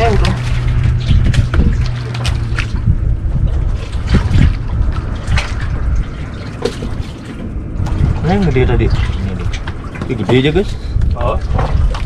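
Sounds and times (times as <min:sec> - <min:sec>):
small splashes: 0:00.0 - 0:12.0
steady low rumble: 0:00.0 - 0:12.0
water sloshing and trickling: 0:00.0 - 0:12.0.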